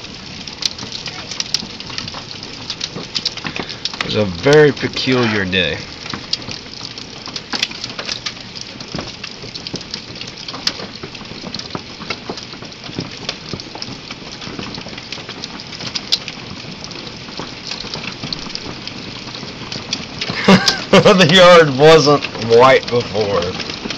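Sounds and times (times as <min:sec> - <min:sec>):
hailstones clicking: 0:00.0 - 0:23.9
heavy rain hissing: 0:00.0 - 0:23.9.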